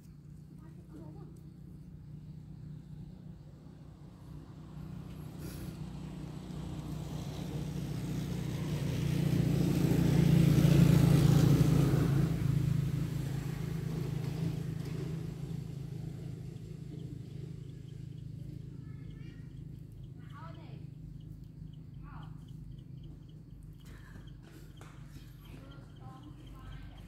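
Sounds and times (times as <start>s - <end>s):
vehicle passing by: 0.5s - 27.0s.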